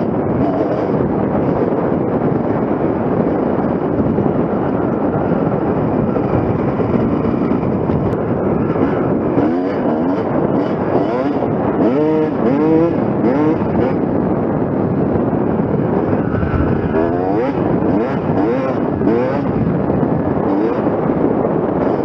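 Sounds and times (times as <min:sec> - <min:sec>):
motocross engine revving: 0:00.0 - 0:14.1, 0:16.8 - 0:21.0.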